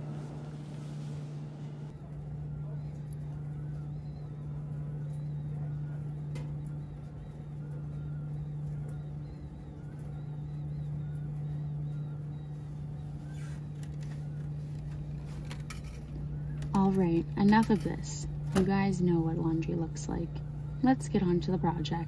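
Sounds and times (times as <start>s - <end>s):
laundry machines humming: 0.0s - 22.0s.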